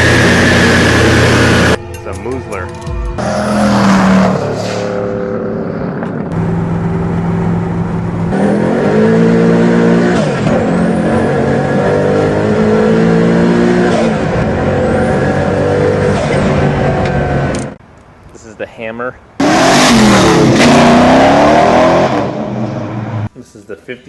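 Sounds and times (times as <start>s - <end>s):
car engine revving: 0.0s - 1.8s, 3.1s - 17.8s, 19.4s - 23.3s.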